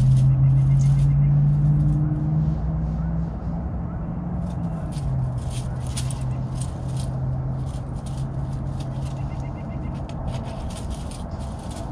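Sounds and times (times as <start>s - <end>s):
dry leaves and shells rustling: 0.0s - 2.1s, 4.4s - 11.9s.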